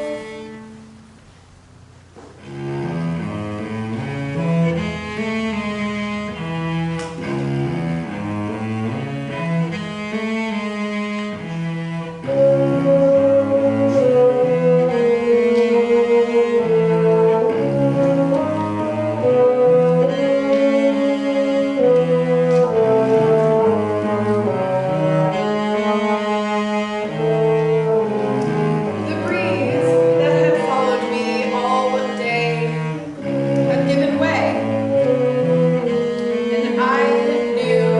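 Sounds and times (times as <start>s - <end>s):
bassoon: 0.0s - 1.1s, 2.4s - 37.9s
cello: 0.0s - 1.2s, 2.2s - 37.9s.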